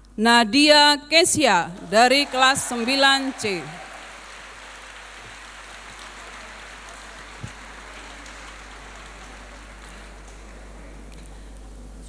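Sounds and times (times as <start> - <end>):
audience applauding: 1.8 - 11.4.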